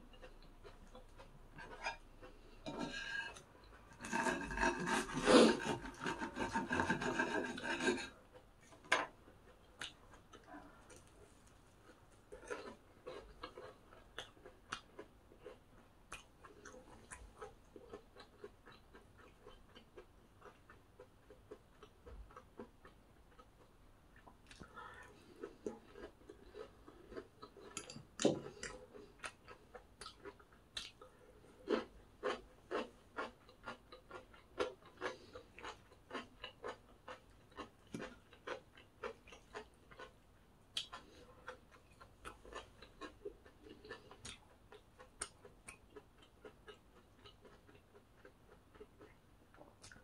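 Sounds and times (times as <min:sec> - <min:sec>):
crunchy chewing of fried cutlet: 0:00.0 - 0:50.0.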